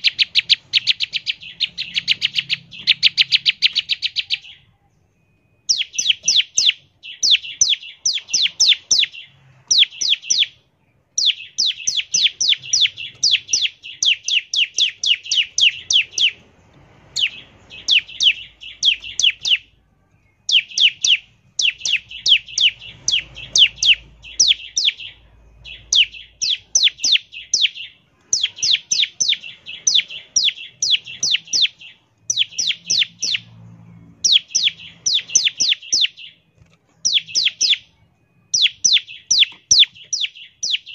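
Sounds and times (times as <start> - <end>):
bird singing rapid high notes: 0.0 - 40.9.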